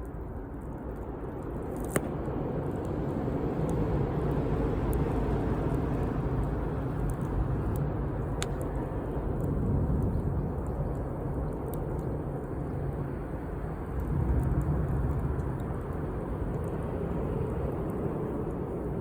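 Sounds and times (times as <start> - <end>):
wood crackling and popping: 0.0 - 19.0
campfire flame rushing: 0.9 - 19.0.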